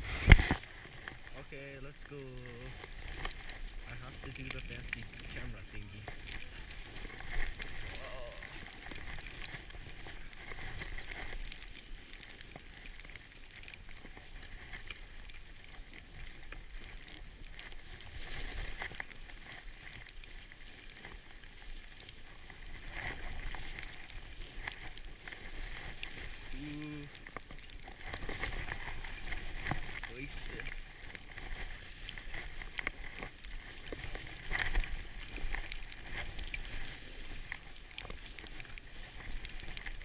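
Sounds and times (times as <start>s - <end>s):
skis scraping over snow: 0.0s - 40.0s.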